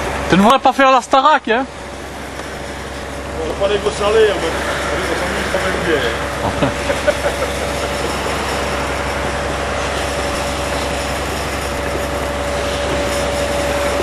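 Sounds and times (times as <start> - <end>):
concrete pump engine drone: 0.0 - 14.0.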